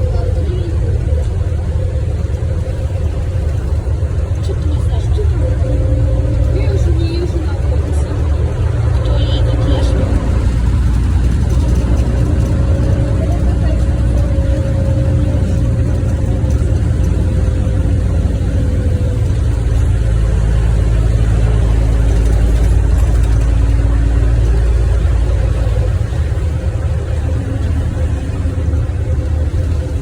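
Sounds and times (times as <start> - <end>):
bus diesel engine drone: 0.0 - 30.0
road noise: 0.0 - 30.0.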